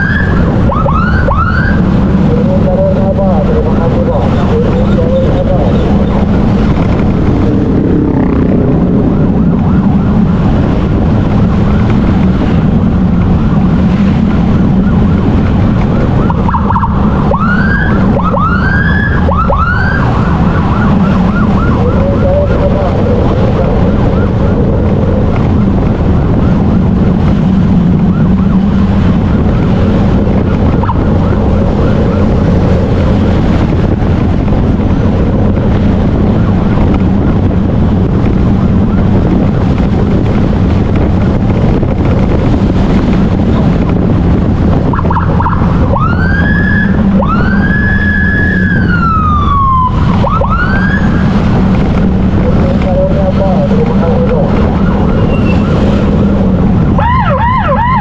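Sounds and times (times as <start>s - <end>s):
emergency siren wailing: 0.0s - 58.0s
wind noise: 0.0s - 58.0s.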